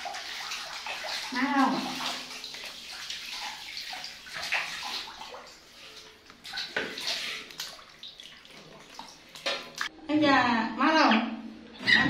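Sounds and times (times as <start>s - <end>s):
shower water spraying into basin: 0.0s - 9.9s
water splashing: 0.0s - 9.9s.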